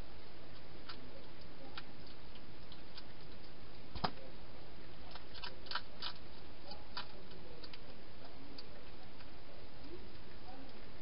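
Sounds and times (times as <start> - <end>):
hedgehog crunching food: 0.2 - 10.9.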